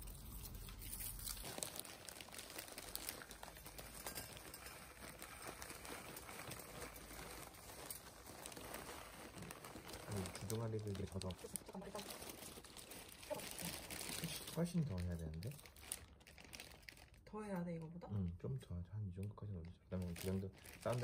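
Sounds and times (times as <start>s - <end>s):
plastic bag crinkling: 0.0s - 17.4s, 19.2s - 21.0s.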